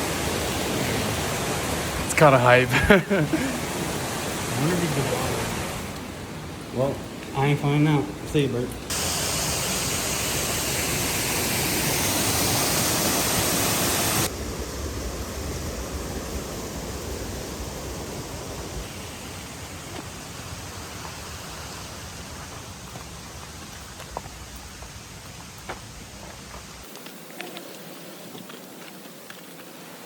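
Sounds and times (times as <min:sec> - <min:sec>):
running water rushing: 0:00.0 - 0:24.2.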